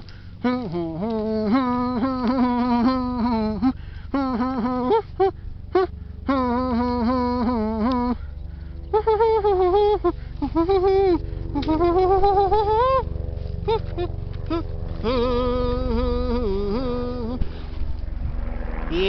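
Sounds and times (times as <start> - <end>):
person singing long wavering notes: 0.0 - 17.8
low rumble: 0.0 - 19.0.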